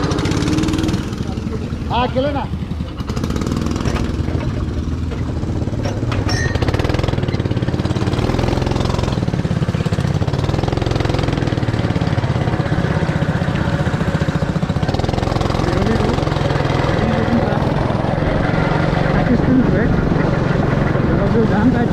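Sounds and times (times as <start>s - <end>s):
go-kart engine running: 0.0s - 21.9s.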